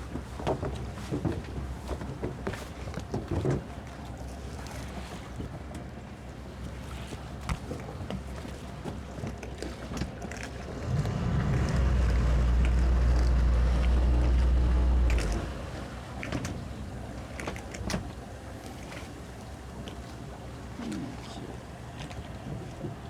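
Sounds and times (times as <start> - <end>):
outboard motors droning: 0.0 - 23.0.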